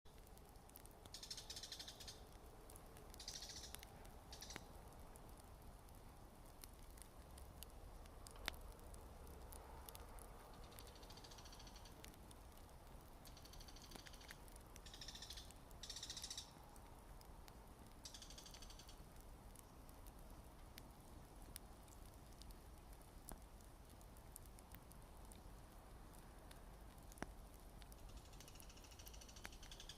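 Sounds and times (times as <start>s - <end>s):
campfire crackling: 0.1s - 29.9s.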